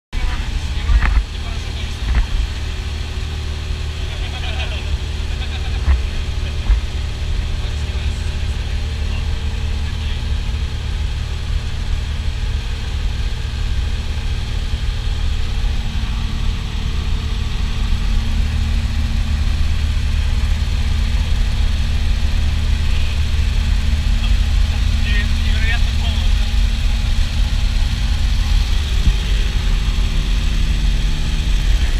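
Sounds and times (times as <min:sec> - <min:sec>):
plane engine and propeller droning: 0:00.2 - 0:31.9.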